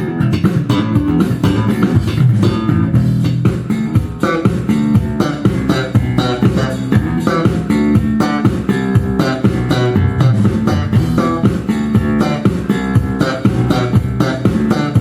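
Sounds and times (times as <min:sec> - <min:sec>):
slap electric bass: 0:00.0 - 0:15.0.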